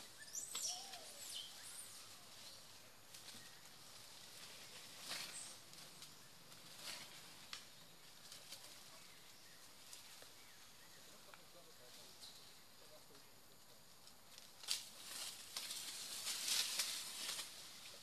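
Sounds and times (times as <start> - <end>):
rustles and snaps of leaves: 0.0 - 18.0.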